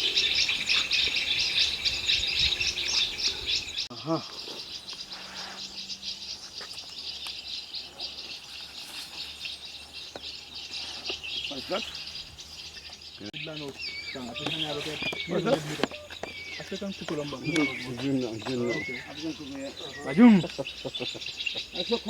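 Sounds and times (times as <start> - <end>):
birds calling: 0.0 - 22.0
insects chirping: 0.0 - 22.0.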